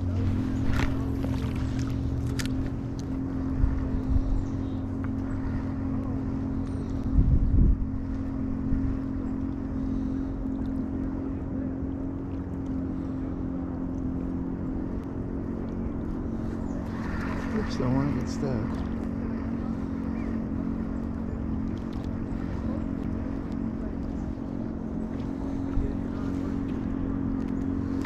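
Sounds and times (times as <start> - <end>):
low engine-like drone: 0.0 - 28.0
low rumble: 0.0 - 28.0.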